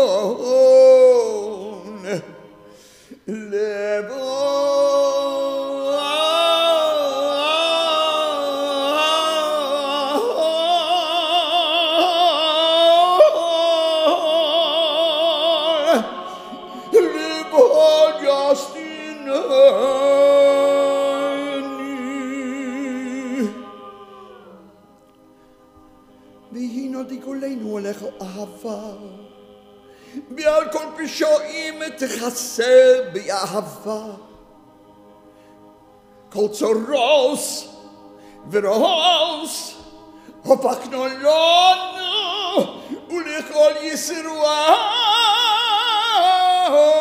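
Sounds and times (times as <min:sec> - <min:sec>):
man chanting: 0:00.0 - 0:02.6, 0:03.2 - 0:24.6, 0:26.4 - 0:29.4, 0:30.2 - 0:34.4, 0:36.3 - 0:47.0.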